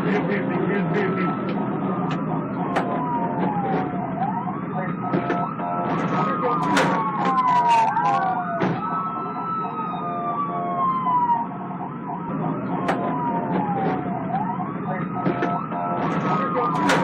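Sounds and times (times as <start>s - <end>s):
police sirens wailing: 0.0s - 17.0s.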